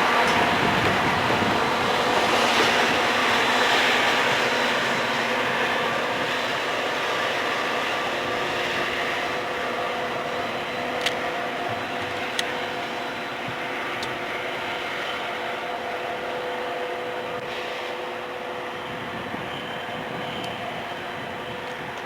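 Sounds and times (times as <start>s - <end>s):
faint steady tones: 0.0s - 22.0s
train rumbling past: 0.0s - 22.0s.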